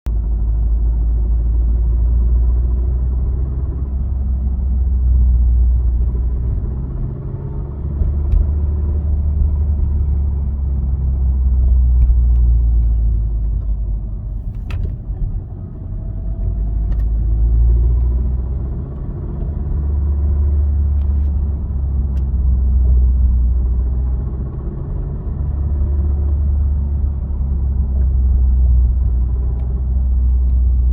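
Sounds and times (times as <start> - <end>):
car low rumble: 0.0 - 30.9.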